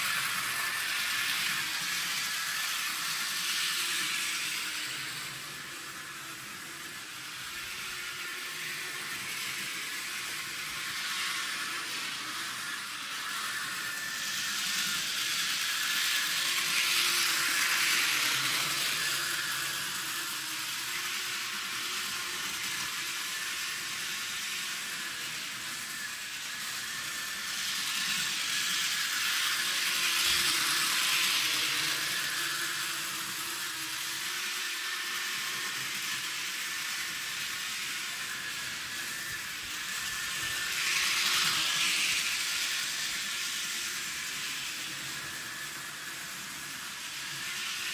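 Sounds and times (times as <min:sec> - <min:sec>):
model train motor and wheels whirring: 0:00.0 - 0:47.9.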